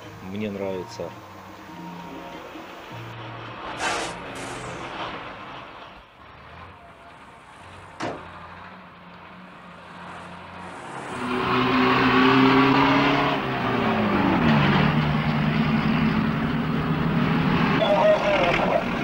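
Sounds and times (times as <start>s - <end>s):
diesel truck engine: 0.0s - 19.0s
low engine hum: 0.0s - 19.0s.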